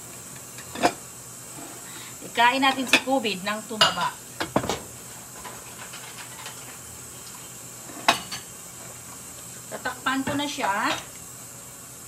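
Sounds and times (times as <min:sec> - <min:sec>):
simmering pot hissing: 0:00.0 - 0:12.0.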